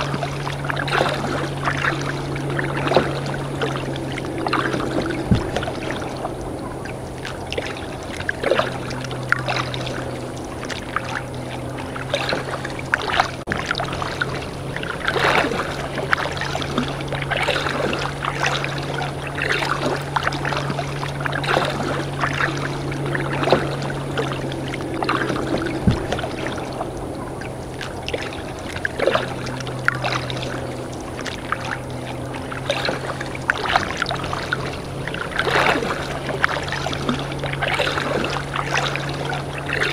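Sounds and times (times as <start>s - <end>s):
kayak paddle splashing: 0.0s - 39.9s
steady low hum: 0.0s - 39.9s.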